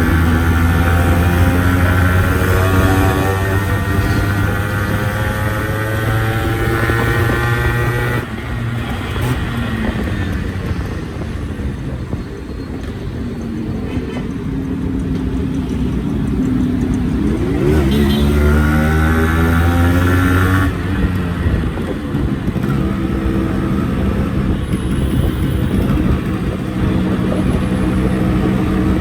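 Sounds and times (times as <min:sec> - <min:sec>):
two-stroke motorcycle engine revving: 0:00.0 - 0:11.0, 0:16.4 - 0:29.0.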